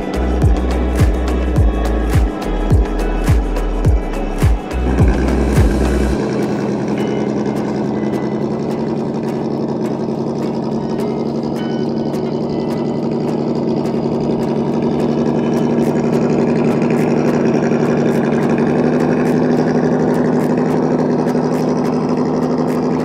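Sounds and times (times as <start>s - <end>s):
electric motor and drivetrain running: 0.0s - 23.0s.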